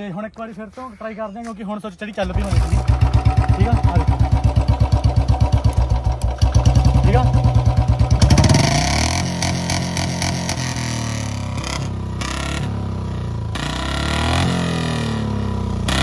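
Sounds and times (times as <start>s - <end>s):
motorcycle engine revving: 2.2s - 16.0s.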